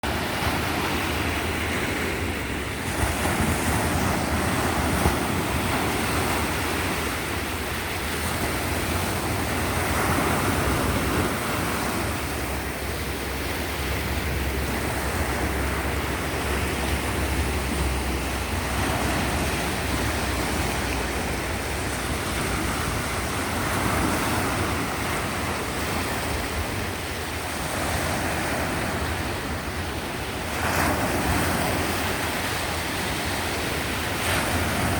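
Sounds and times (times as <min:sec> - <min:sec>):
waves breaking on shore: 0:00.0 - 0:34.9.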